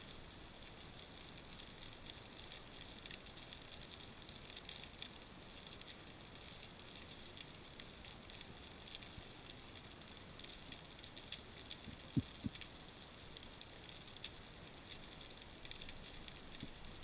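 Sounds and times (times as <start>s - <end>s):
constant hiss: 0.0s - 17.0s
underwater crackle: 0.0s - 17.0s.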